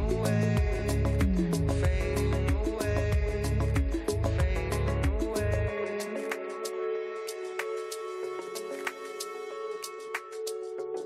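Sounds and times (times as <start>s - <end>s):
dance music with steady beat: 0.0s - 11.0s.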